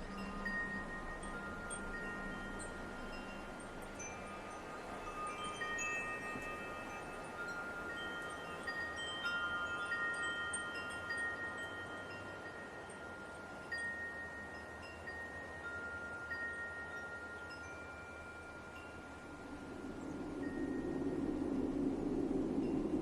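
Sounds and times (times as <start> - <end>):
wind chimes ringing: 0.0 - 21.2
light wind: 0.0 - 23.0.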